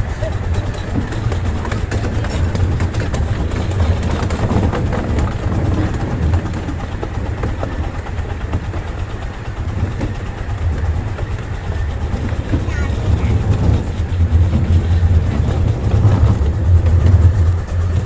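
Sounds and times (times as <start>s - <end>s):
train cars rolling rumble: 0.0s - 18.0s
wheels clicking on rails: 0.0s - 18.0s.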